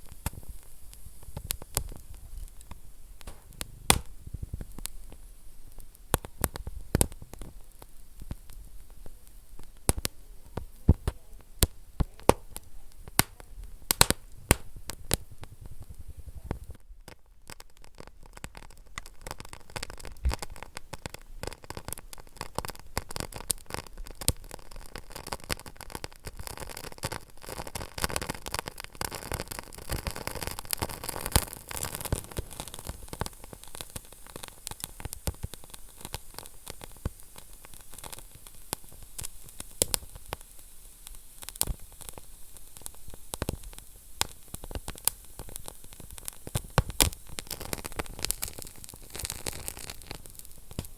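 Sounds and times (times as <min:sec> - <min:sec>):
low hiss of fire: 0:00.0 - 0:50.9
wood fire crackling: 0:00.0 - 0:50.9.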